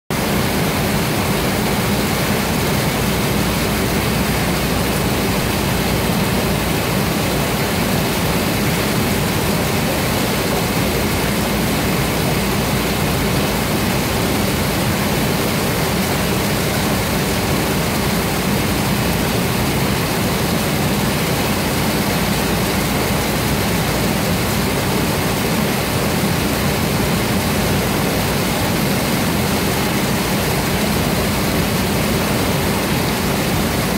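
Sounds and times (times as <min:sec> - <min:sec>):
water gushing onto metal grating: 0:00.2 - 0:33.9.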